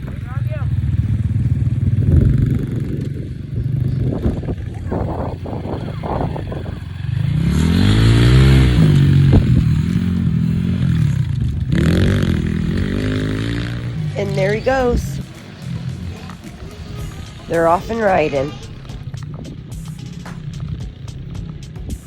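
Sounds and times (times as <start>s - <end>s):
small off-road engine revving: 0.0s - 22.0s.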